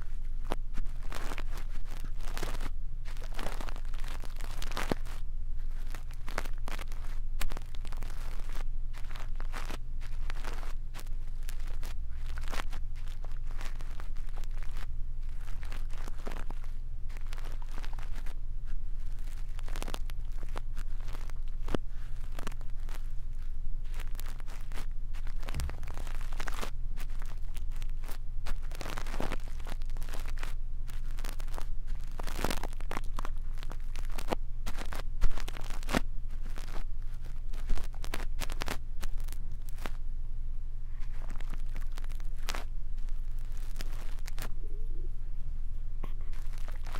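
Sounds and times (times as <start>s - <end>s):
brush bristles scratching microphone: 0.0s - 40.0s, 41.0s - 44.5s, 46.0s - 46.9s
steady low hum: 0.0s - 46.9s.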